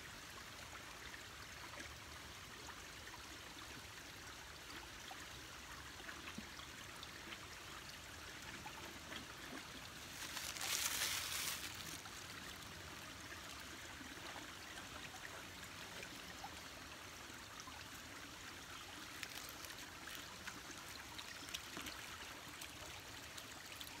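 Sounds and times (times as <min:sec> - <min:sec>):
creek trickling over rocks: 0:00.0 - 0:24.0.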